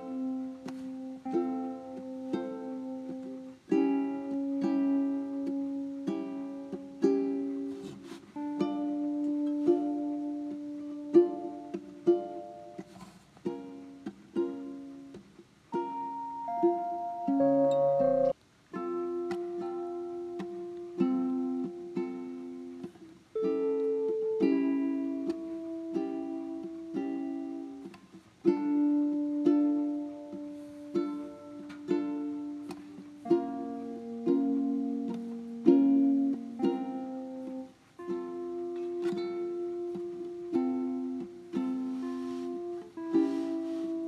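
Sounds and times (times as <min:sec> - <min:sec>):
plucked-string chords: 0:00.0 - 0:44.0.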